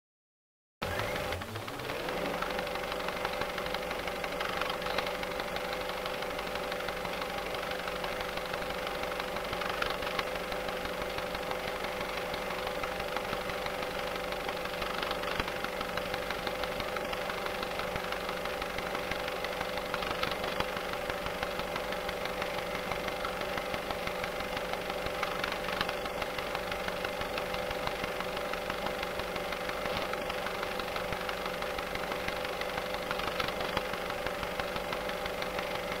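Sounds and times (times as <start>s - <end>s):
steady electrical hum: 0.8s - 36.0s.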